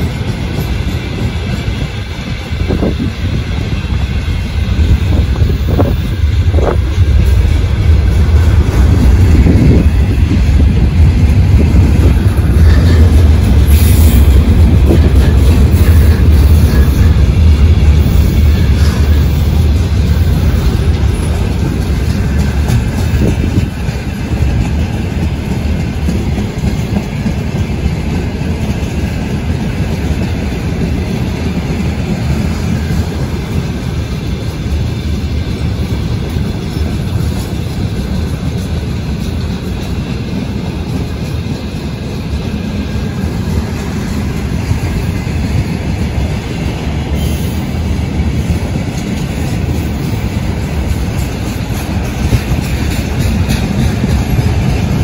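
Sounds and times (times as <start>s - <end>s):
freight train wagons rolling: 0.0s - 55.0s.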